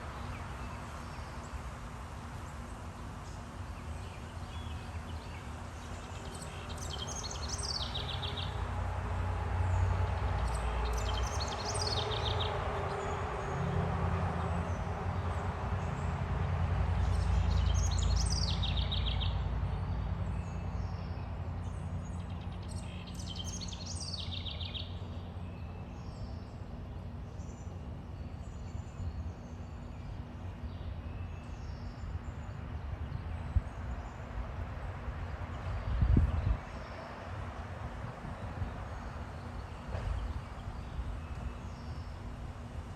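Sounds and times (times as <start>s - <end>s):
songbird singing: 0.0s - 1.8s, 2.4s - 13.8s, 17.0s - 37.5s, 38.2s - 42.9s.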